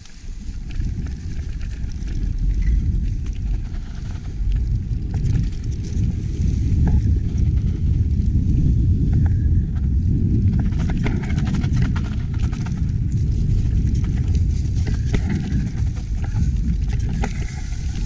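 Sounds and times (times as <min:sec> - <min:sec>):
bike clicks and rattles: 0:00.0 - 0:18.0
tyres rumbling on trail: 0:00.0 - 0:18.0
wind on microphone: 0:00.0 - 0:18.0.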